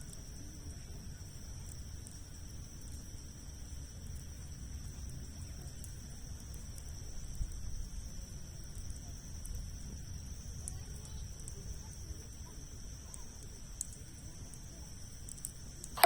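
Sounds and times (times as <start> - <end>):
low rumble of fire: 0.0 - 16.0
insect drone: 0.1 - 16.0.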